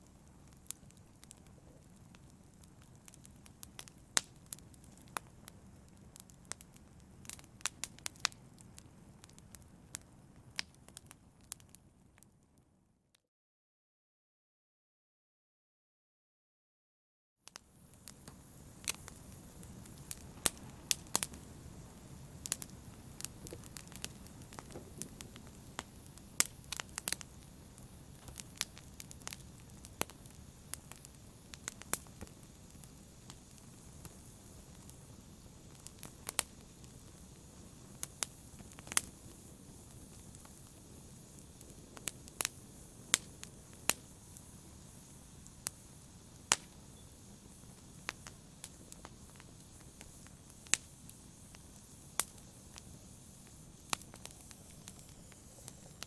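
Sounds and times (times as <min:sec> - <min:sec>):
fire rumbling in fireplace: 0:00.0 - 0:11.8, 0:17.6 - 0:56.0
fire crackles and pops: 0:00.0 - 0:12.8, 0:17.4 - 0:56.0.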